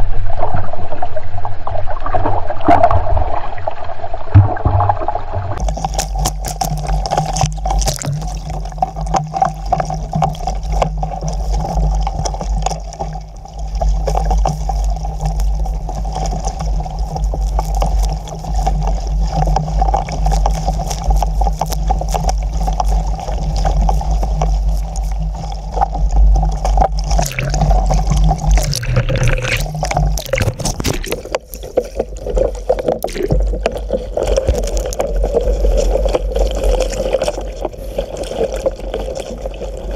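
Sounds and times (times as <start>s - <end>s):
water gurgling: 0.0s - 39.9s
wind rumbling on microphone: 0.0s - 39.9s
water slapping against hull: 4.3s - 39.9s.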